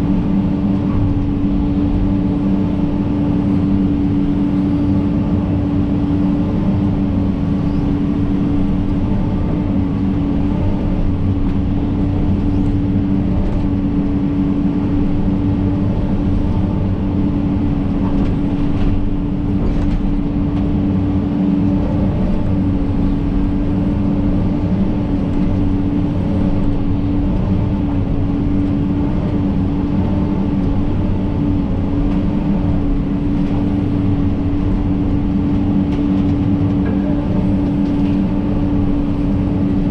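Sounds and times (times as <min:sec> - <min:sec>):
excavator diesel engine drone: 0:00.0 - 0:39.9
steady whine: 0:00.0 - 0:39.9.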